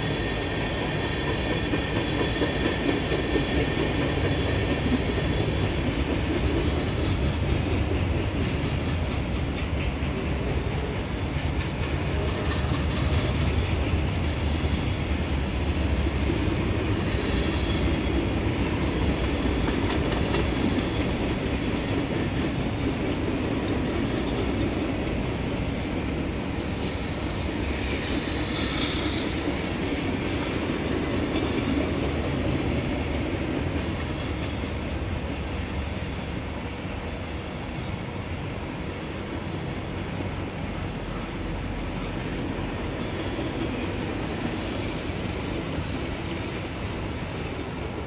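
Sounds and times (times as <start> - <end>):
freight cars rumbling on rails: 0.0 - 48.0.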